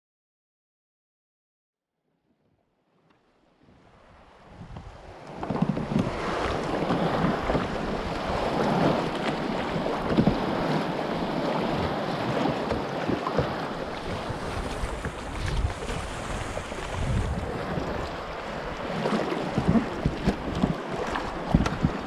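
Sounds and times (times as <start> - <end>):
waves lapping against hull: 2.4 - 22.0
wind buffeting microphone: 3.7 - 22.0.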